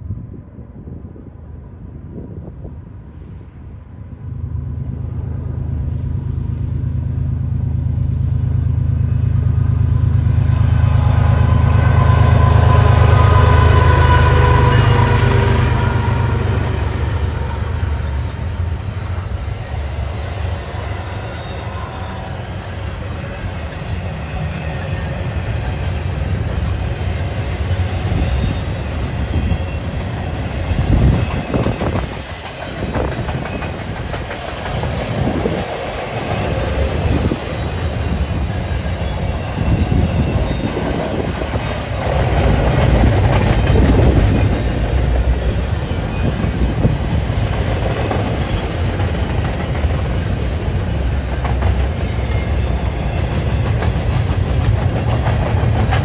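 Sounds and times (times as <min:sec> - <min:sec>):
diesel locomotive engine drone: 0:00.0 - 0:56.0
train cars rumbling over rails: 0:00.0 - 0:56.0.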